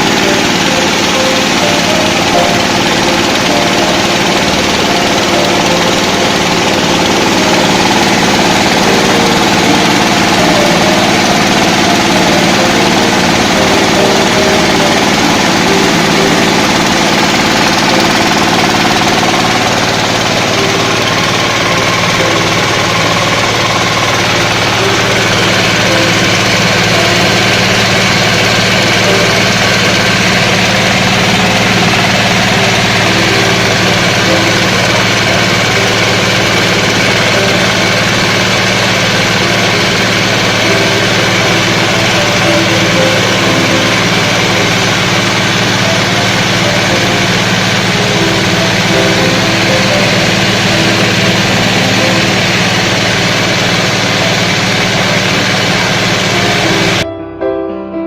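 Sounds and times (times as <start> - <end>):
husking machine motor drone: 0.0 - 57.0.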